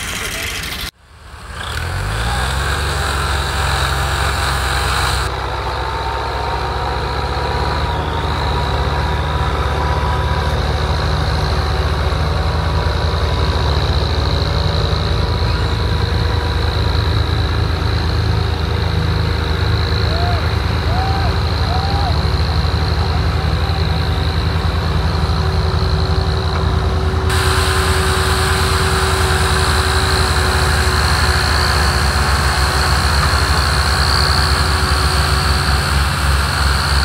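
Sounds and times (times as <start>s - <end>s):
tractor diesel engines under load: 0.0s - 37.0s.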